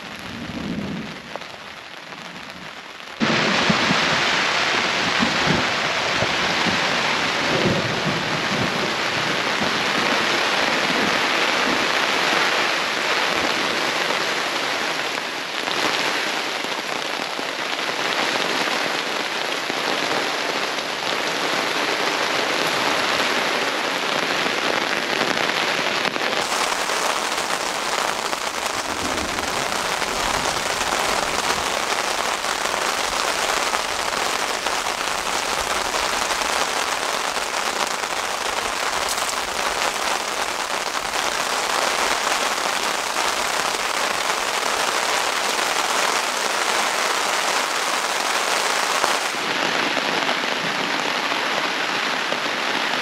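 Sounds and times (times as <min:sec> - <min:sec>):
heavy rain on canvas tarp: 0:00.0 - 0:53.0.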